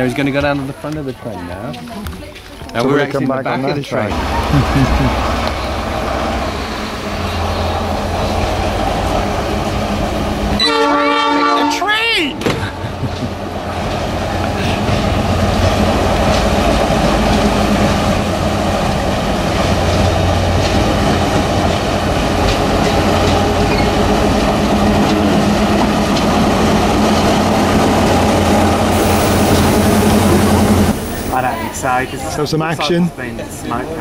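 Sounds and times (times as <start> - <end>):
train engine hum and rumble: 0.0 - 34.0
wheels clicking on track: 4.1 - 10.7, 12.6 - 34.0.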